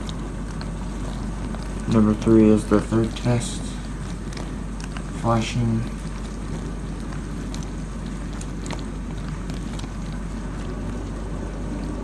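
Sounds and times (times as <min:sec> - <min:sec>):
dishwasher pump humming: 0:00.0 - 0:12.0.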